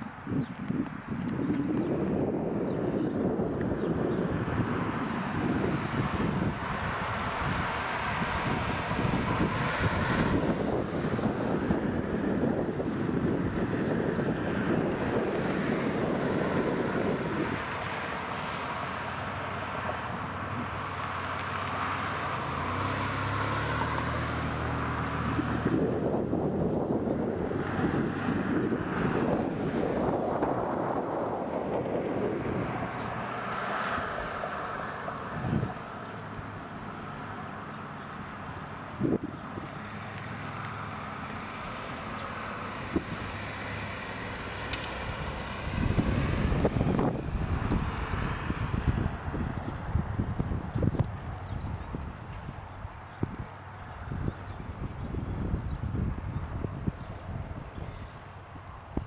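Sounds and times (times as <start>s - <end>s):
road traffic noise: 0.0s - 59.0s
wind buffeting microphone: 0.0s - 59.0s.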